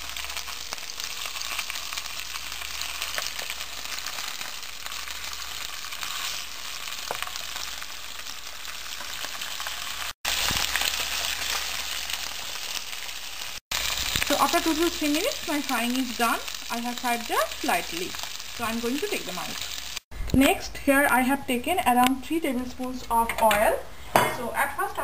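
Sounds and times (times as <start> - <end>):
fish sizzling in a pan: 0.0 - 20.1.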